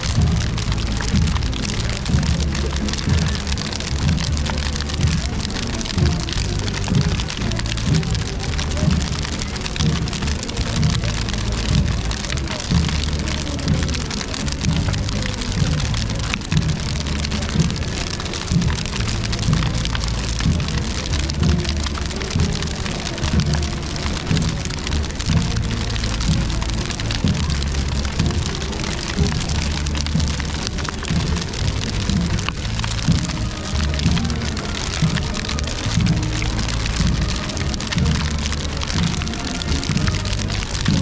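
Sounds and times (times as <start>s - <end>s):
bonfire crackling: 0.0s - 41.0s
music with low beat: 0.0s - 41.0s.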